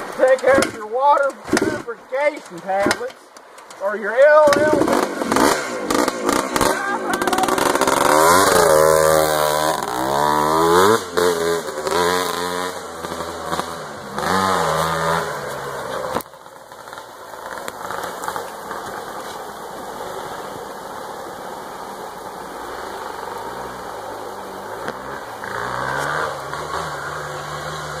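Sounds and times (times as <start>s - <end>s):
motorcycle engines revving: 0.0s - 28.0s
steady rushing noise: 0.0s - 28.0s.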